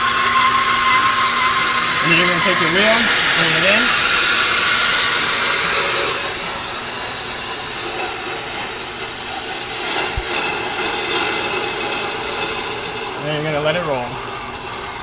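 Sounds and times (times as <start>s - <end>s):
brake lathe cutting hiss: 0.0s - 15.0s
lathe motor running: 0.0s - 15.0s.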